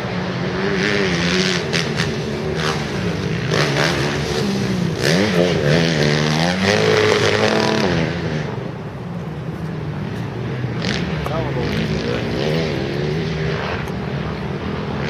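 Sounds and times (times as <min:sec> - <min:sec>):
motocross bike engine revving: 0:00.0 - 0:08.9, 0:10.6 - 0:15.0.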